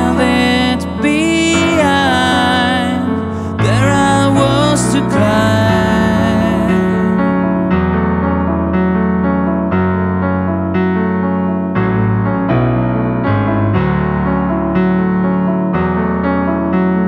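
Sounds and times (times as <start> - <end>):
piano repeated notes and chords: 0.0 - 17.0.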